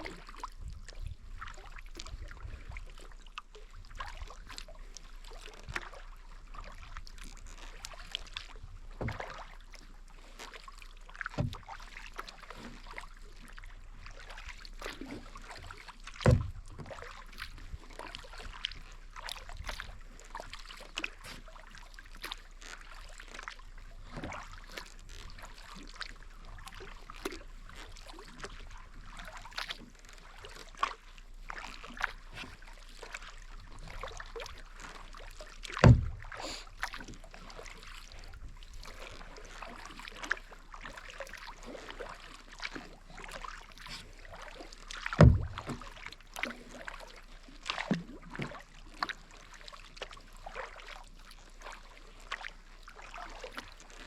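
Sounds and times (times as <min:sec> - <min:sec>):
paddle blades dipping and dripping: 0:00.0 - 0:54.0.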